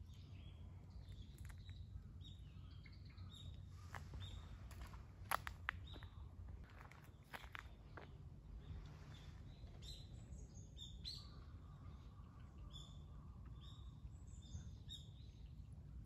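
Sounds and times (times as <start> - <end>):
small birds chirping: 0.0 - 15.7
faint low rumble: 0.0 - 16.0.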